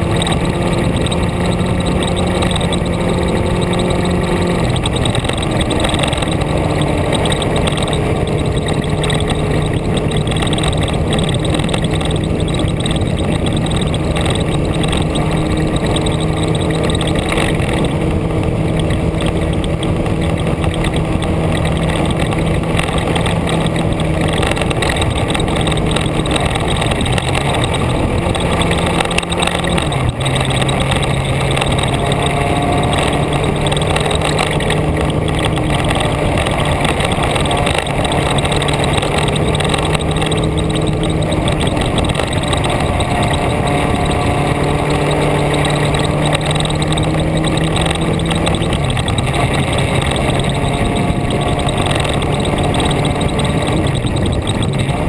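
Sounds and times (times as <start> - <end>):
vehicle engine running: 0.0 - 55.0
wind and road noise: 0.0 - 55.0.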